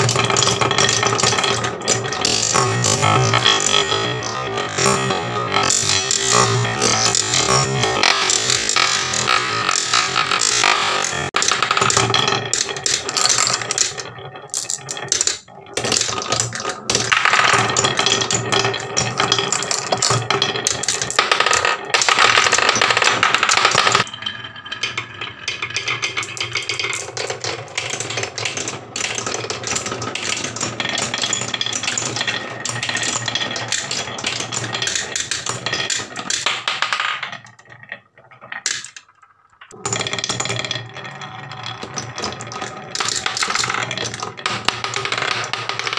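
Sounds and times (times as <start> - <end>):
marbles rolling on wooden tracks: 0.0 - 45.9.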